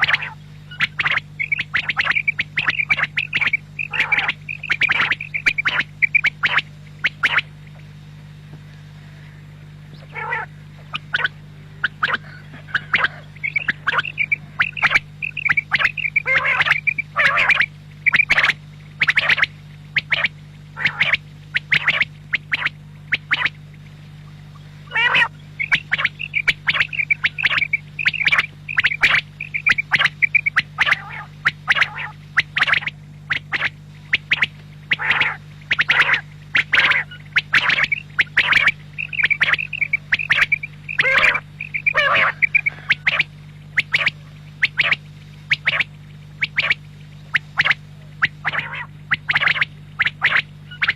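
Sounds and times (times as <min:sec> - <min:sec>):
quail calling in sharp notes: 0:00.0 - 0:07.9, 0:08.9 - 0:50.9
steady low hum: 0:00.0 - 0:50.9.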